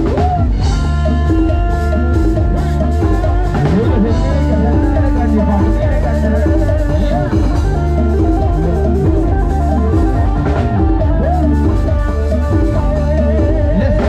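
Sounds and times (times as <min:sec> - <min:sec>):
electric guitar melody: 0:00.0 - 0:14.0
heavy bass: 0:00.0 - 0:14.0
live band music: 0:00.0 - 0:14.0.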